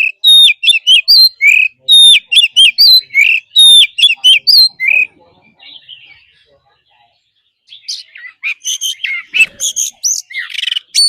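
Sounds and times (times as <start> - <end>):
songbird whistling song: 0.0 - 6.6, 7.3 - 11.0.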